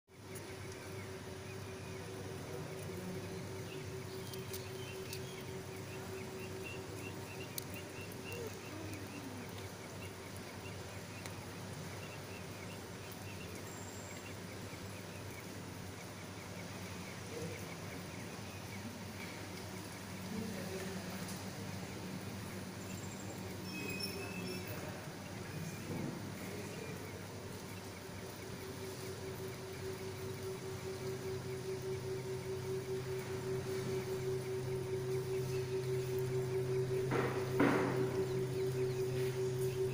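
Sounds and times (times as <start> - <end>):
low drone: 0.1 - 39.9
steady low hum: 0.1 - 39.9.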